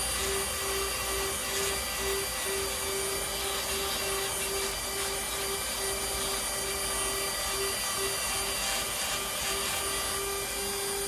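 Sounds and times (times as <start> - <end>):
power tool whining under load: 0.0 - 11.0.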